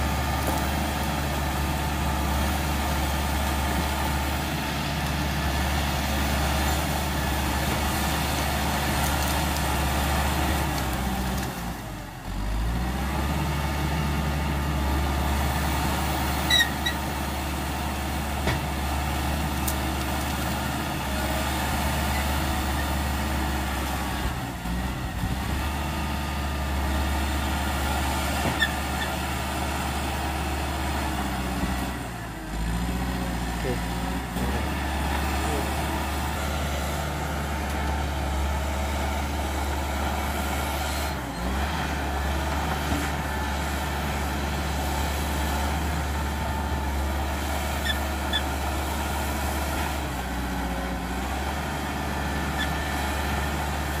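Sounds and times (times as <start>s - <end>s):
bulldozer diesel engine under load: 0.0s - 54.0s.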